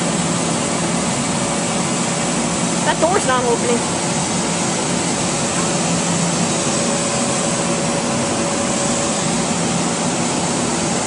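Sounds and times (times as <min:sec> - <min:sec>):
electric train blowers humming: 0:00.0 - 0:11.0.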